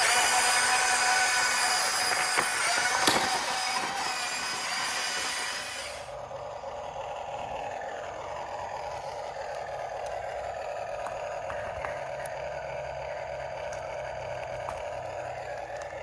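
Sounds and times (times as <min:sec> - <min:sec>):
electric motor and pump whirring: 0:00.0 - 0:16.0.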